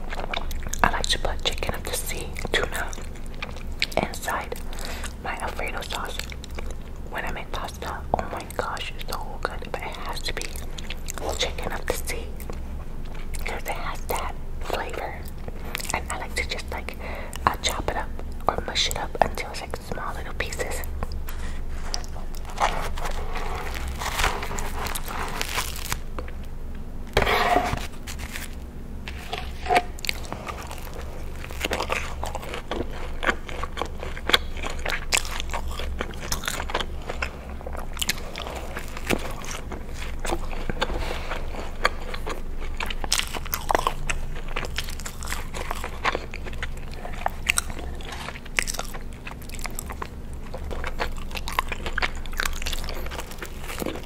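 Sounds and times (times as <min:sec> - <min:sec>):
biting and chewing food: 0:00.0 - 0:54.0.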